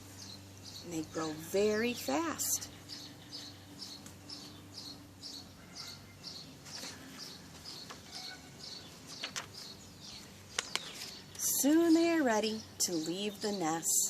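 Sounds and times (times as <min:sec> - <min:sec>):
bird chirping: 0:00.0 - 0:14.0
faint steady hum: 0:00.0 - 0:14.0.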